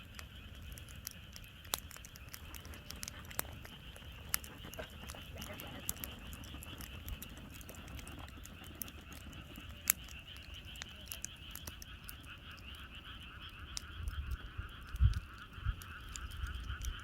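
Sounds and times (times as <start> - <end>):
campfire crackling: 0.0 - 17.0
frogs croaking: 0.0 - 17.0.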